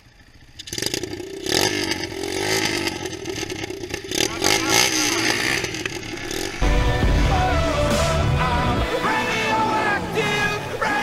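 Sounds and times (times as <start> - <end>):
engine throttle blips: 0.0 - 11.0
motocross bike engines idling: 0.0 - 11.0.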